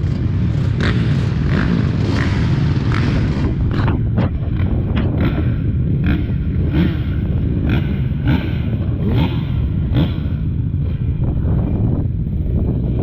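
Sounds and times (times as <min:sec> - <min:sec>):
dirt bike engine revving: 0:00.0 - 0:13.0
wind rush on microphone: 0:00.0 - 0:13.0.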